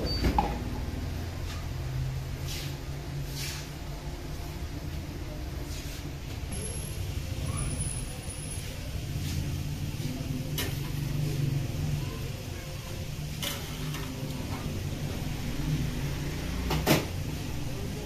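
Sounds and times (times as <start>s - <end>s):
low kitchen background rumble: 0.0s - 18.0s.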